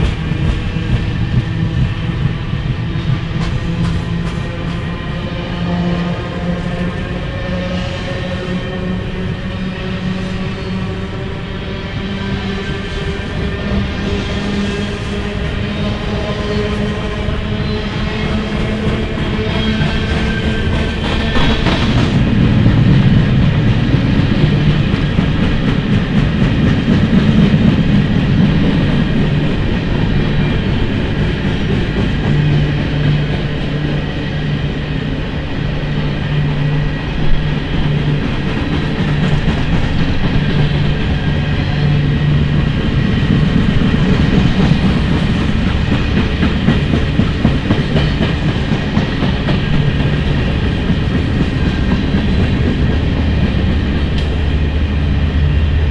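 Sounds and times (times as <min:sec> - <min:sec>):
freight train wheels clattering on rails: 0:00.0 - 0:55.9.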